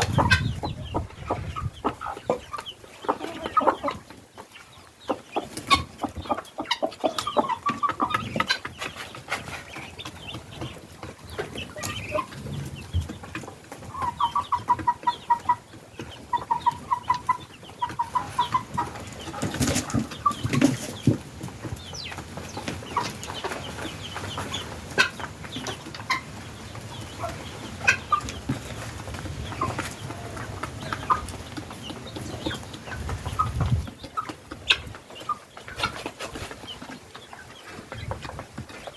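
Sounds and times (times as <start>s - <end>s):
guinea fowl and chickens clucking: 0.0s - 38.9s.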